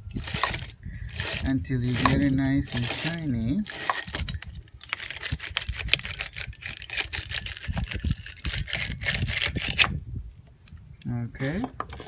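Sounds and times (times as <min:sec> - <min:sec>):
wire brush scraping metal: 0:00.0 - 0:09.9.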